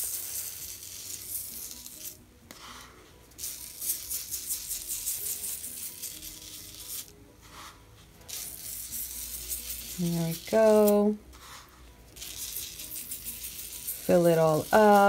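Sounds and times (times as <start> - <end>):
sugar sprinkled onto paper: 0.0 - 15.0.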